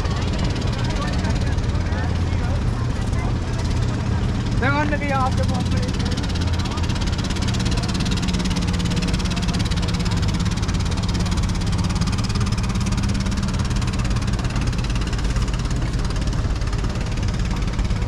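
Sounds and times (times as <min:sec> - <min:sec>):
motor engine running steadily: 0:00.0 - 0:18.0.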